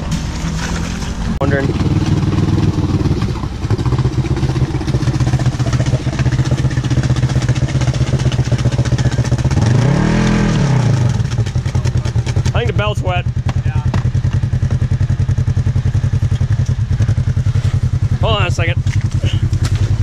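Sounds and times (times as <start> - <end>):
vehicle engine running at low revs: 0.0 - 20.0.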